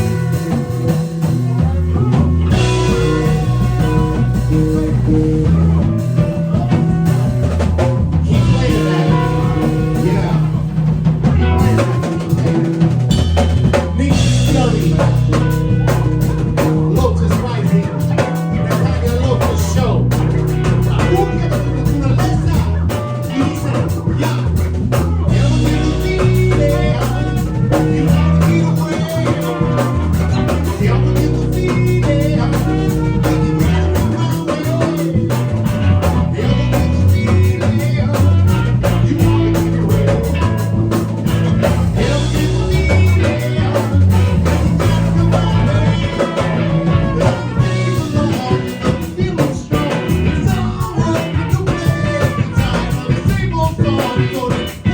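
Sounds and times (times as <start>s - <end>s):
band playing: 0.0s - 54.9s
driving bass line: 0.0s - 54.9s.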